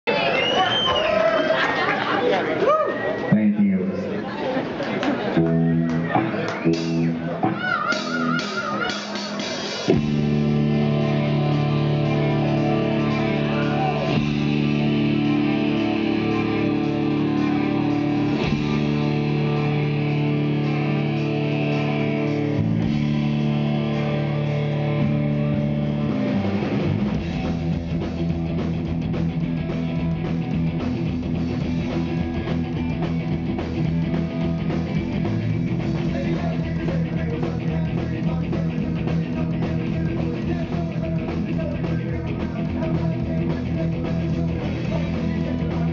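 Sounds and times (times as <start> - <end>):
electric guitars: 0.1 - 45.9
bass guitar: 5.0 - 45.9
drum kit: 5.4 - 45.9.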